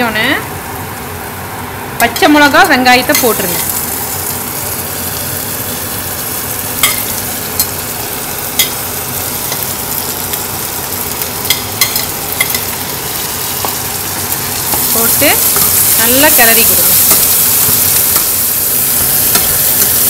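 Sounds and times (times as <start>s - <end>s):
meat sizzling in a pan: 2.1s - 20.0s.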